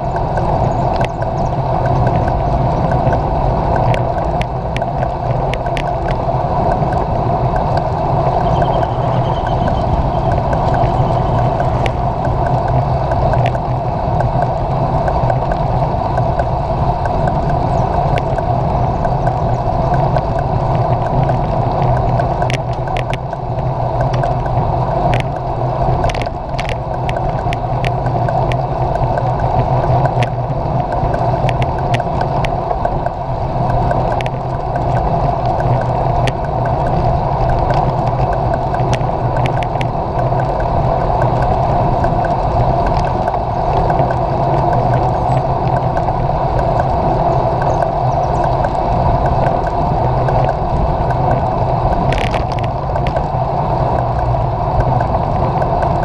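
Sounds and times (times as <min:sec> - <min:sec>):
bicycle tyre road noise: 0:00.0 - 0:56.0
bike clicks and knocks: 0:00.0 - 0:56.0
wind on microphone: 0:00.0 - 0:56.0.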